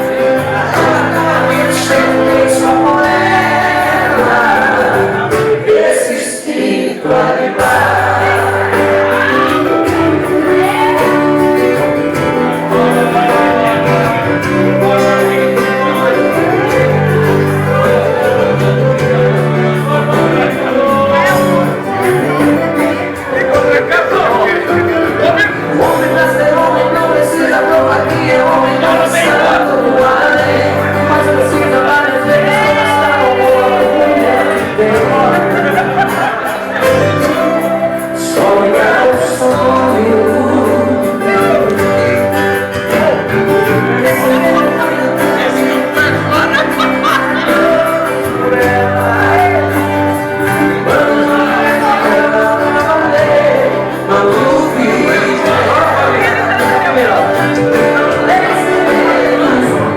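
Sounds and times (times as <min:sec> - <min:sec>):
bass line: 0:00.0 - 0:05.6, 0:07.6 - 0:59.9
live band playing: 0:00.0 - 0:59.9
man singing: 0:00.0 - 0:59.9.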